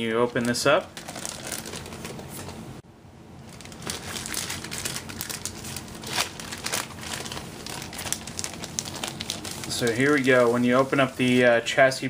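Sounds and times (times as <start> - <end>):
plastic bag crinkling: 0.0 - 2.5, 3.4 - 11.6.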